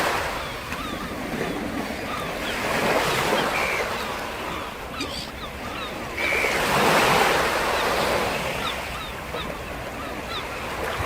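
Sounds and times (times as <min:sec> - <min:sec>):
sea waves surging: 0:00.0 - 0:11.0
steady wash of water: 0:00.0 - 0:11.0.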